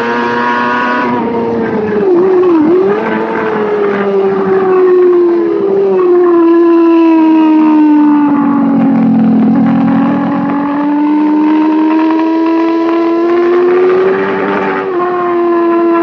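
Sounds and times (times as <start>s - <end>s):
racing motorcycle engine high revs: 0.0s - 16.0s.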